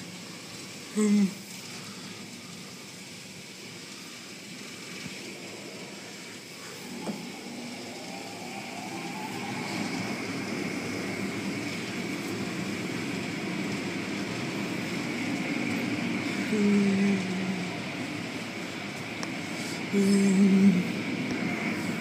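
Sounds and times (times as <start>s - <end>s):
steady humming tone: 0.0s - 22.0s
water and foam spray: 0.0s - 22.0s.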